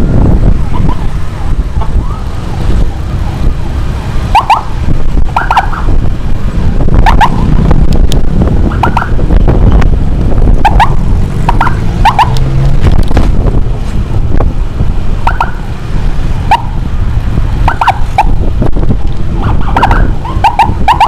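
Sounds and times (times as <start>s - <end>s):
motorcycle wind and road noise: 0.0s - 21.0s.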